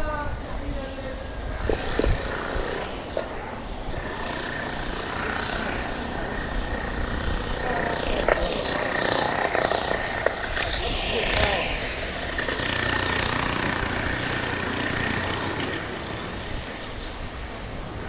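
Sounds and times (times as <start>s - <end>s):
steady high motor whine: 0.0s - 18.0s
wind buffeting microphone: 0.0s - 18.0s.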